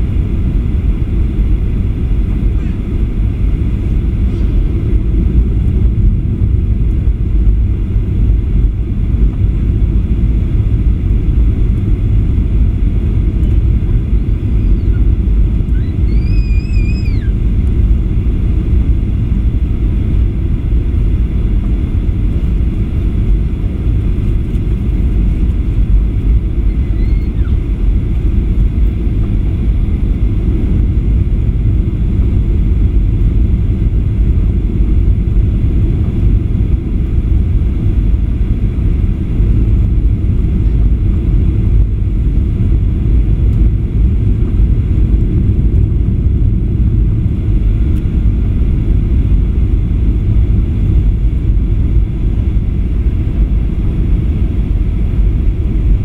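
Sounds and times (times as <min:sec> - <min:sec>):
aircraft cabin low rumble: 0:00.0 - 0:56.0.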